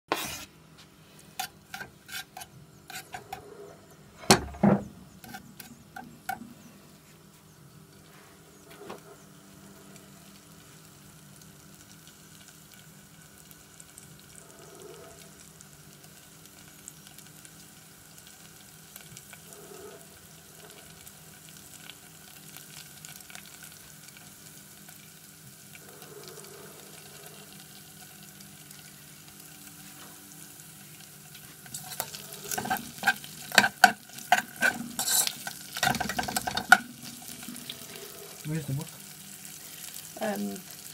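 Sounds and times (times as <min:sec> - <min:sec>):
mushrooms frying in hot oil: 0:04.2 - 0:40.9.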